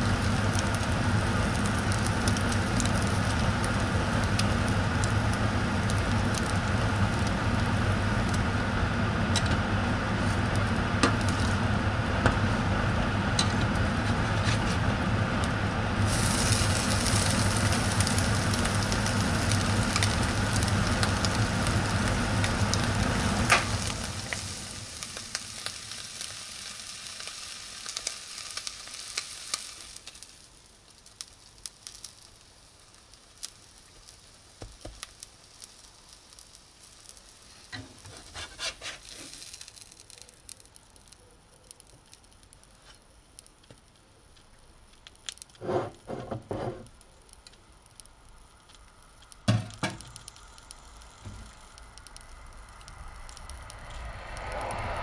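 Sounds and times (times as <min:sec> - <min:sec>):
sandwich sizzling in frying pan: 0:00.0 - 0:41.0, 0:44.9 - 0:54.4.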